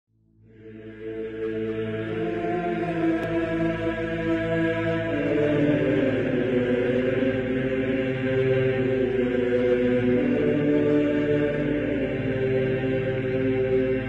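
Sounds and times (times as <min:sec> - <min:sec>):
chant-like choral singing: 0:00.5 - 0:14.0.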